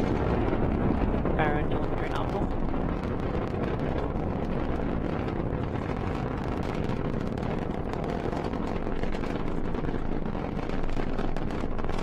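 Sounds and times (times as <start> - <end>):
rocket engines roaring with crackle: 0.0 - 12.0.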